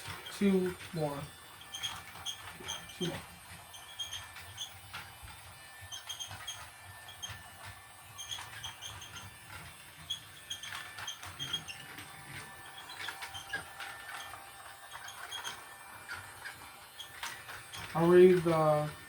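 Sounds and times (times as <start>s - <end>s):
toy train running: 0.0s - 19.0s
faint high squeaks: 0.2s - 5.0s, 5.7s - 18.7s.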